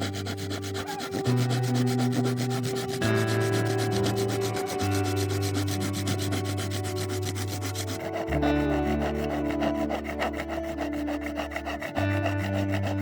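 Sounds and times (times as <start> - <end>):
background music: 0.0 - 13.0
hand rubbing strokes on wood: 0.0 - 13.0.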